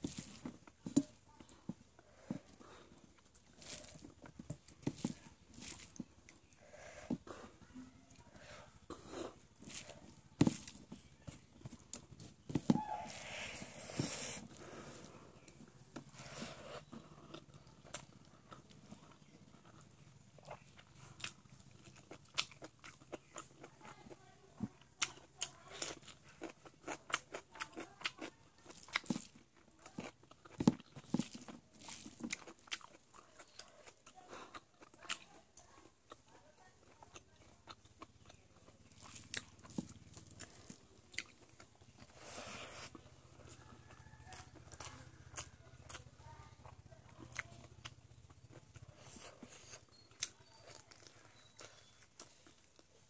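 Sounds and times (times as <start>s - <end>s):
chewing cooked chicken: 0.0s - 53.0s.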